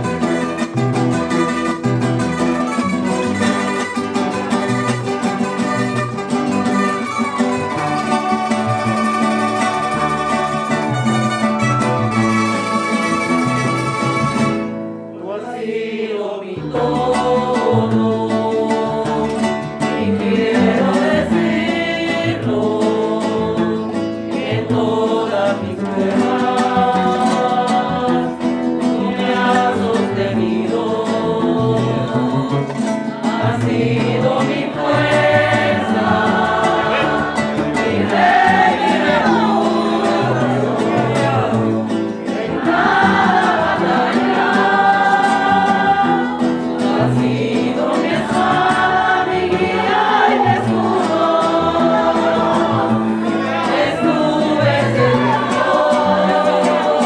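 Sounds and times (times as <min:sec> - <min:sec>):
guitar accompaniment: 0:00.0 - 0:57.0
women's choir singing a hymn: 0:06.8 - 0:11.1, 0:15.2 - 0:57.0.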